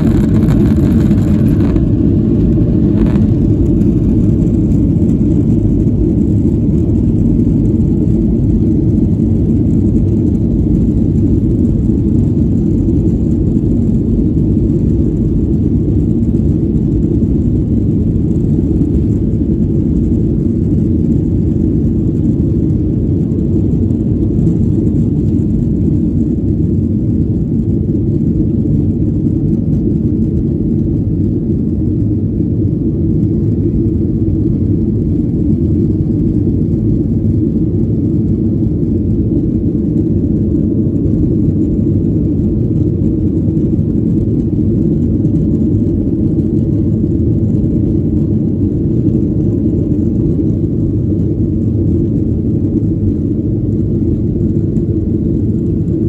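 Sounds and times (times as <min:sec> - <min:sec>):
jet engines deep rumble: 0:00.0 - 0:56.0.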